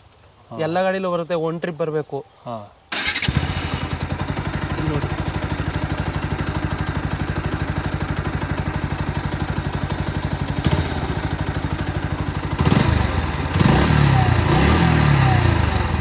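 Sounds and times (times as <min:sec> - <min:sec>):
motorcycle engine idling: 0:02.9 - 0:16.0.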